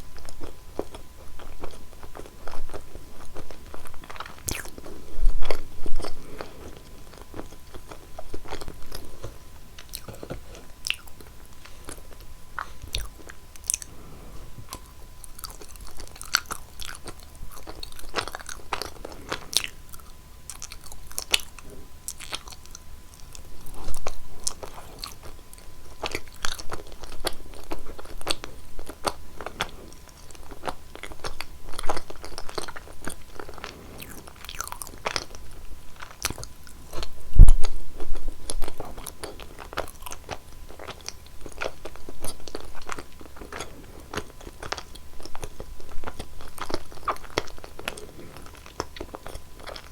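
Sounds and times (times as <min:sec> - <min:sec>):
chewing and crunching: 0:00.0 - 0:49.9.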